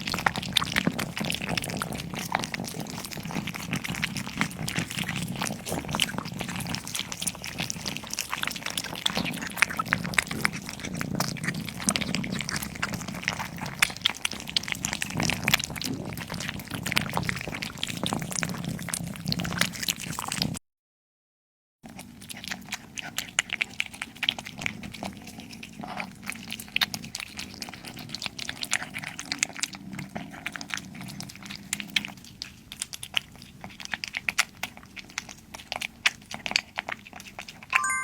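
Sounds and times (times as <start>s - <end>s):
cat chewing and crunching: 0.0s - 20.6s, 21.9s - 37.7s.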